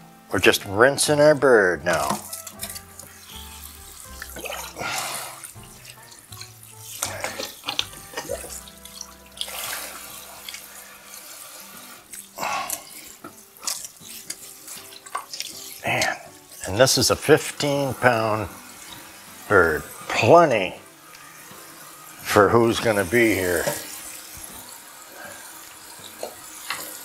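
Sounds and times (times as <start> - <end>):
faucet water splashing: 0.3 - 27.0.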